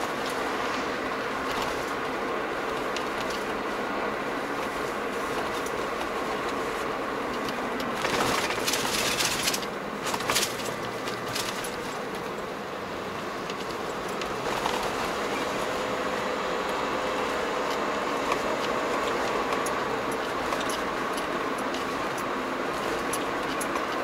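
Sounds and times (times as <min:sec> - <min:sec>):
car cabin road and engine noise: 0:00.0 - 0:24.0.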